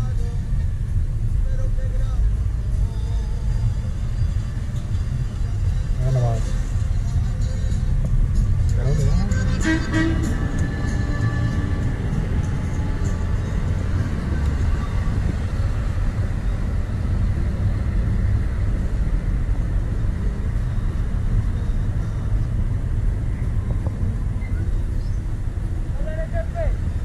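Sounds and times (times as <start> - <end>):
car engine rumble: 0.0 - 27.0
tyres on road: 0.0 - 27.0.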